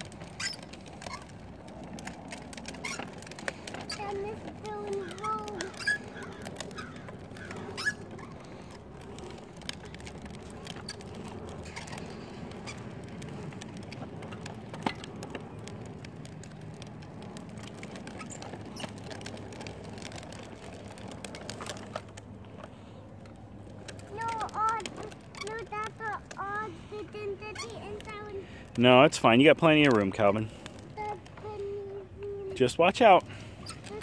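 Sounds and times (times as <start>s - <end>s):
small ticks and clicks: 0.0s - 34.0s
tricycle rolling over asphalt: 0.0s - 34.0s.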